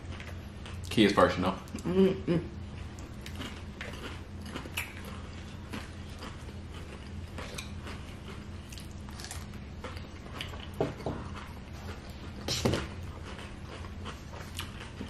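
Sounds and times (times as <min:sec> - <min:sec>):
people chewing crunchy chips: 0:01.6 - 0:15.0.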